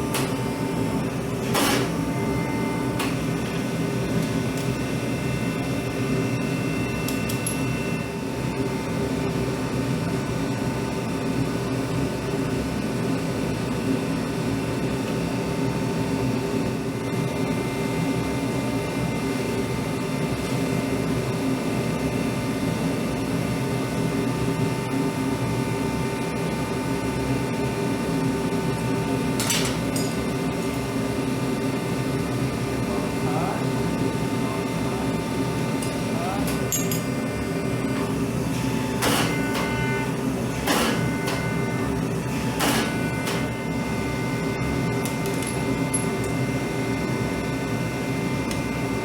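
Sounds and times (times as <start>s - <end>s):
workshop machinery drone: 0.0s - 49.0s.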